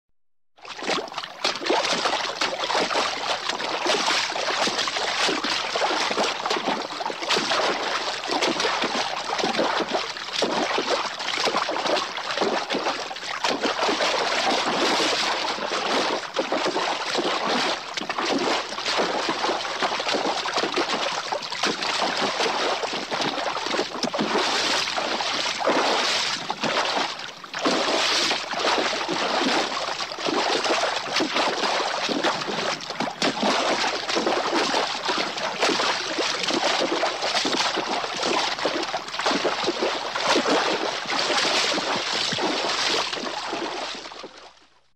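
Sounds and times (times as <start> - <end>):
hooves splashing through water: 0.6 - 44.8.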